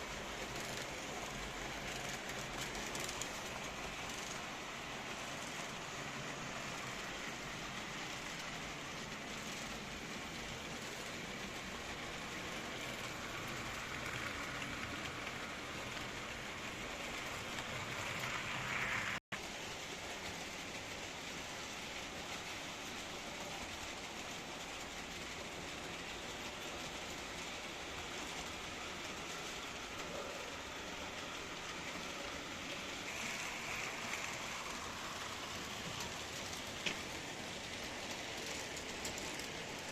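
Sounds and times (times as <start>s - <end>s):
model train wheels rolling: 0.0s - 39.9s.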